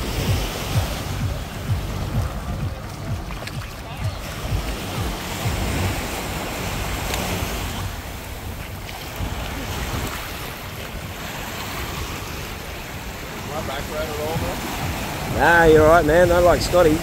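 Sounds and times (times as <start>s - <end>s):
small waves lapping on sand: 0.0s - 17.0s
wind buffeting microphone: 0.0s - 17.0s.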